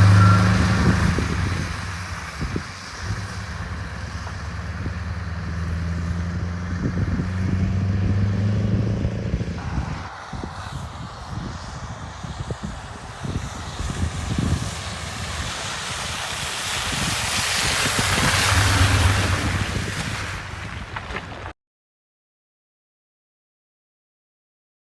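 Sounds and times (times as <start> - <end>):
diesel engine humming: 0.0 - 21.5
wind and road noise: 0.0 - 21.6.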